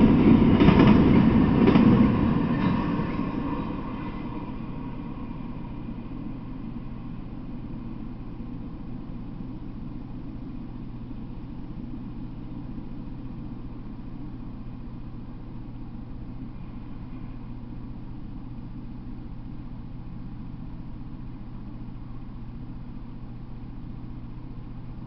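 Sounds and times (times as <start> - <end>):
constant low hum: 0.0 - 25.0
low rumble and hiss: 0.0 - 25.0.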